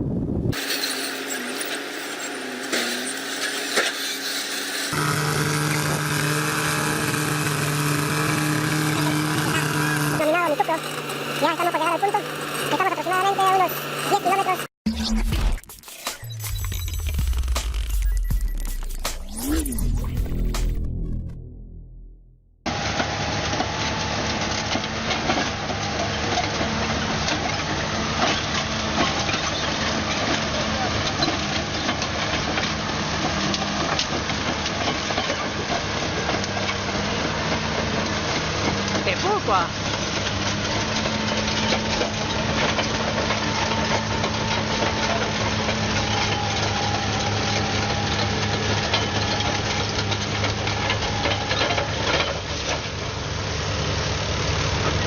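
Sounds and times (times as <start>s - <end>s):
heavy diesel engine under load: 0.0s - 14.7s, 19.9s - 55.0s.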